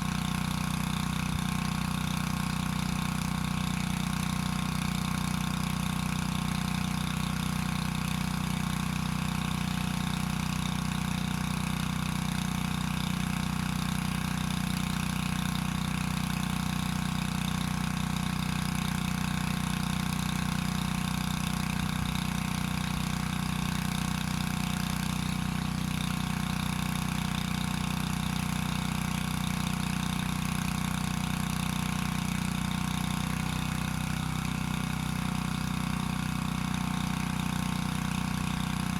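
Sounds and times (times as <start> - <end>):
water pump engine running: 0.0 - 38.9.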